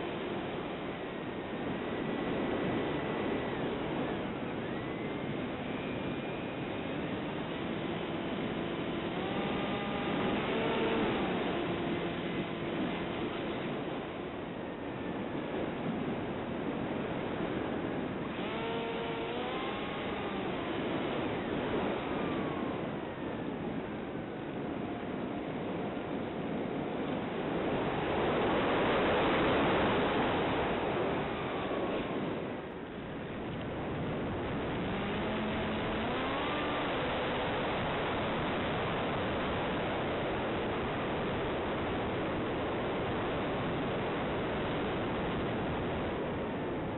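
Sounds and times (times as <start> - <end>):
electric motor whine: 0.0 - 15.4, 17.0 - 46.9
wind hissing over microphone: 0.0 - 46.9.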